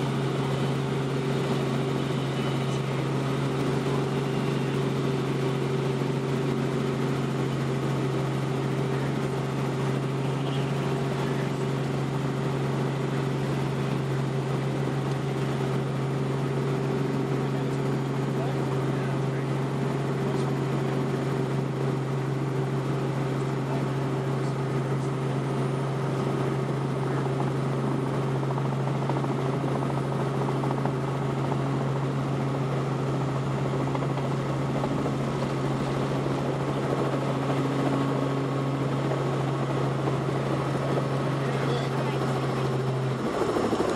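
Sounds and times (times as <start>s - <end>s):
helicopter engine and rotors: 0.0s - 43.9s.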